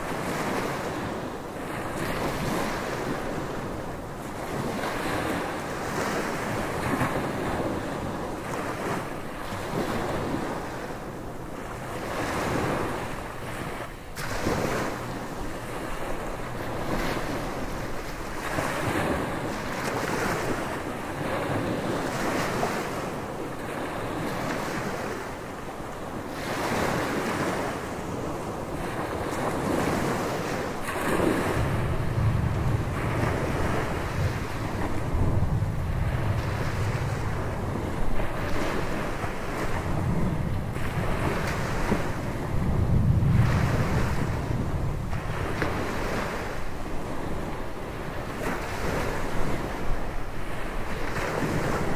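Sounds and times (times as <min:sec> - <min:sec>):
ocean surf breaking: 0:00.0 - 0:51.9
wind buffeting microphone: 0:00.0 - 0:51.9.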